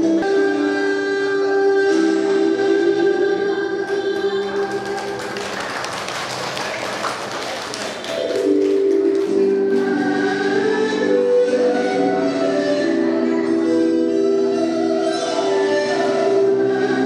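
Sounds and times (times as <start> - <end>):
music with held notes: 0.0 - 6.8, 7.6 - 17.0.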